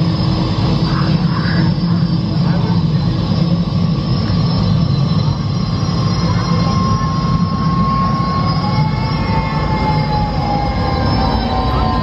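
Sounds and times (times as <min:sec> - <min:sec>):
high whining tones: 0:00.0 - 0:12.0
steady mechanical hum: 0:00.0 - 0:12.0.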